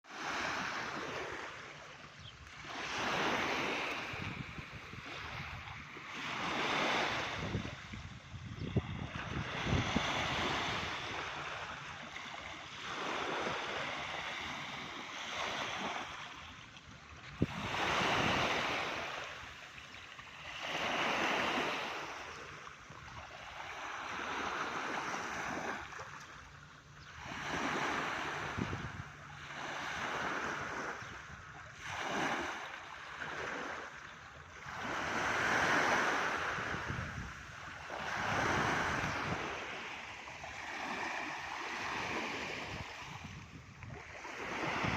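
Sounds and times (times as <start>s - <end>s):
sea waves breaking: 0.0s - 44.9s.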